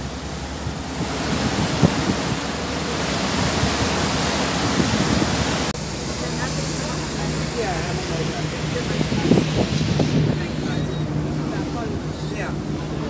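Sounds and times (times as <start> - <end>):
water rushing in boat wake: 0.0 - 13.0
wind buffeting microphone: 0.0 - 13.0.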